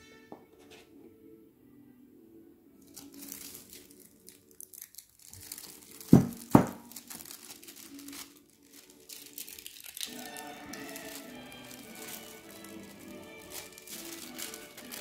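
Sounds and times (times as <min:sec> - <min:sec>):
tissue paper crinkling: 0:02.8 - 0:15.0.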